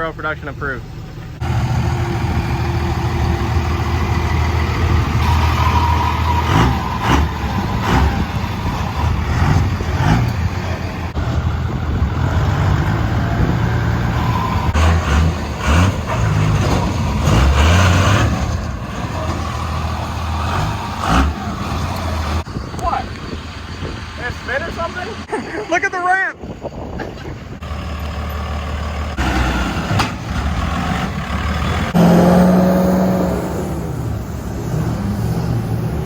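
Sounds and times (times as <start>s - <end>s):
truck engines revving: 0.0s - 36.0s.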